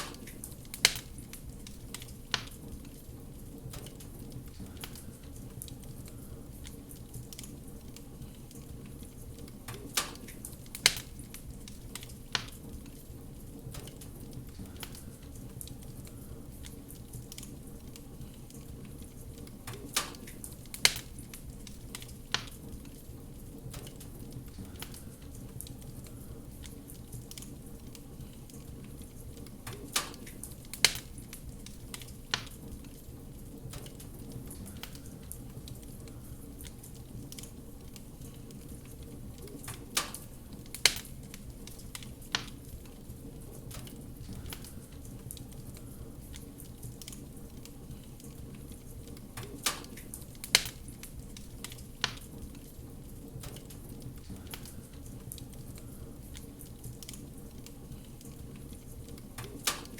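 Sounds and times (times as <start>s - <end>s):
burning wood popping: 0.0s - 59.9s
fire rumbling: 0.0s - 59.9s.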